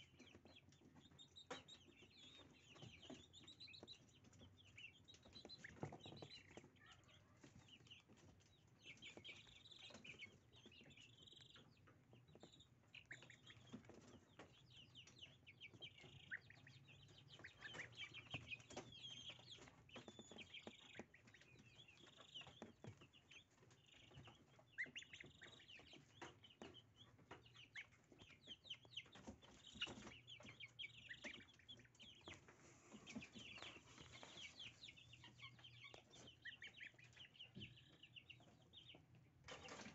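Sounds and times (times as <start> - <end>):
goslings peeping: 0.0 - 39.9.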